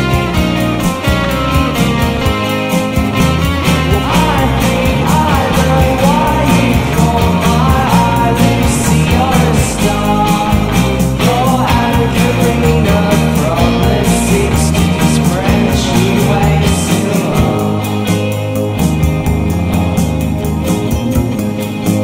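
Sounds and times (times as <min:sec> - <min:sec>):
rock song with sung vocal: 0:00.0 - 0:19.4.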